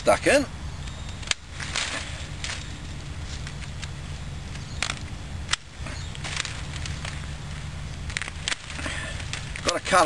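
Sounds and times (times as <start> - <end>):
rustling of vine canes: 0.0 - 10.0.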